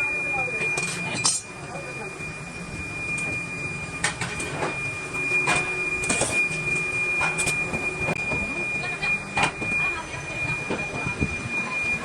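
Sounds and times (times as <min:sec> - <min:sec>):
metalworking machine whining: 0:00.0 - 0:12.0.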